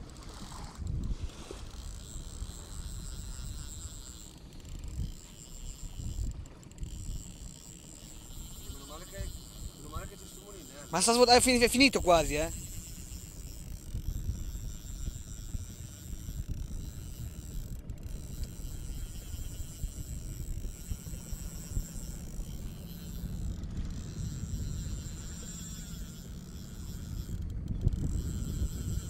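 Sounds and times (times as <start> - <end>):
fishing reel drag buzzing: 0.0 - 29.0.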